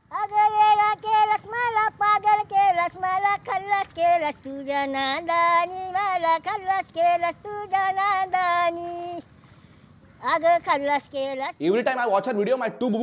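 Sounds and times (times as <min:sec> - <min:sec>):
woman singing high melody: 0:00.0 - 0:09.2, 0:10.2 - 0:11.6.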